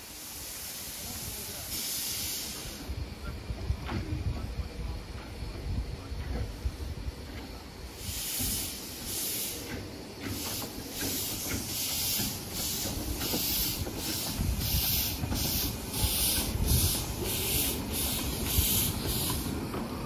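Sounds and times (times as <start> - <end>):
steam hissing in chuffs: 0.0 - 20.0.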